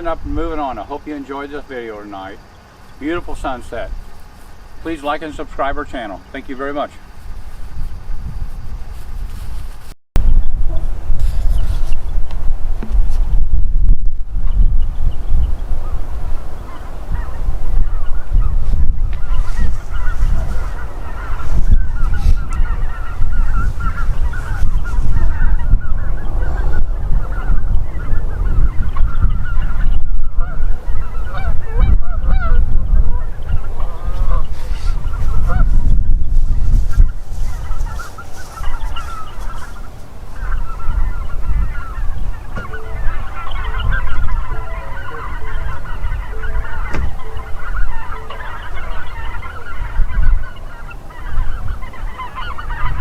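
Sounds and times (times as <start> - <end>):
geese honking: 0.0 - 8.3, 15.4 - 53.0.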